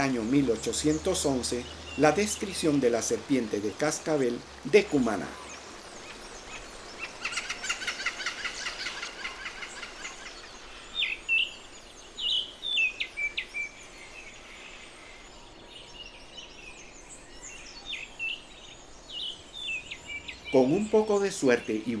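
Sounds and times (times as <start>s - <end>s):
birds chattering: 0.0s - 22.0s
birds whistling calls: 0.0s - 22.0s.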